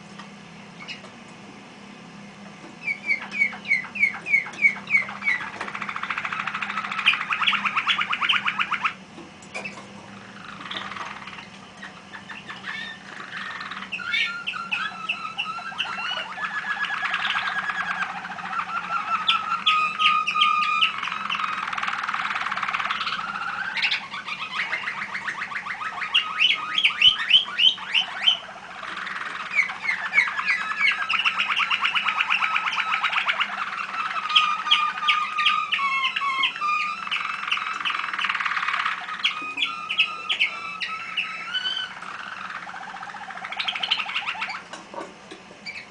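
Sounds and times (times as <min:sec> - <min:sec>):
canaries singing trills: 0:00.0 - 0:45.9.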